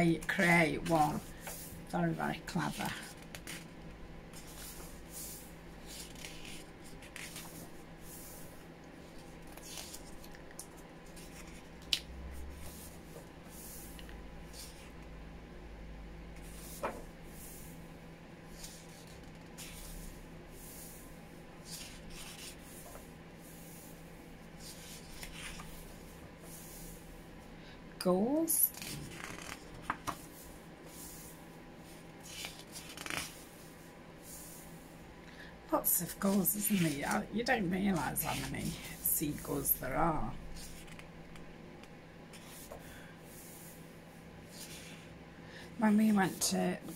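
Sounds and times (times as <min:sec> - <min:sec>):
book pages turning: 0:00.1 - 0:15.0, 0:18.5 - 0:27.0, 0:28.6 - 0:34.7, 0:35.8 - 0:43.7, 0:44.4 - 0:45.1.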